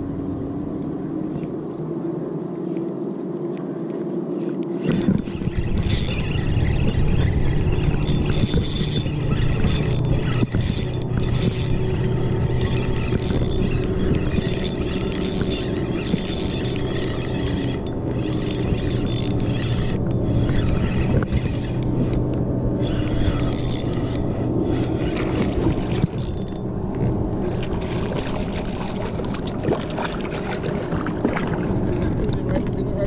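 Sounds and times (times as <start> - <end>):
boat motor humming: 0.0 - 33.0
water noise: 0.0 - 33.0
wind: 0.0 - 33.0.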